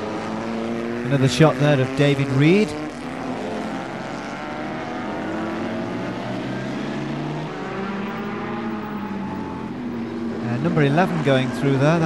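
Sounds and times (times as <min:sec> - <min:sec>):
racing car engine at speed: 0:00.0 - 0:12.0.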